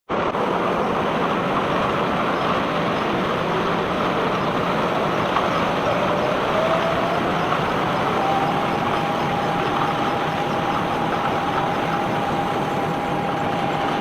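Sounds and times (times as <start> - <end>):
unloading machinery running: 0.2 - 13.5.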